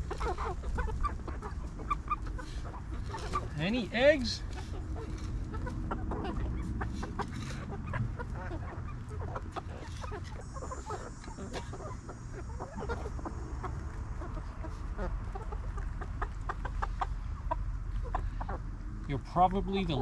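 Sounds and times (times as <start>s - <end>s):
chickens clucking: 0.0s - 20.0s
steady low rumble: 0.0s - 20.0s.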